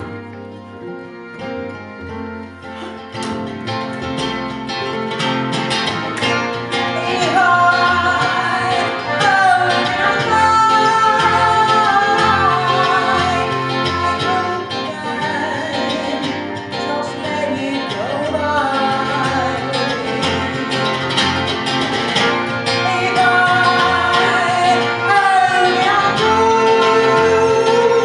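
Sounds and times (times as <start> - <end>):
plucked guitar: 0.0 - 28.0.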